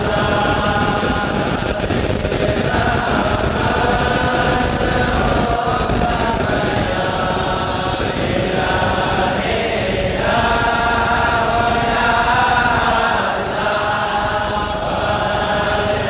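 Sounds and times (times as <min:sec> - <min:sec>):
group chanting in unison: 0:00.0 - 0:16.0.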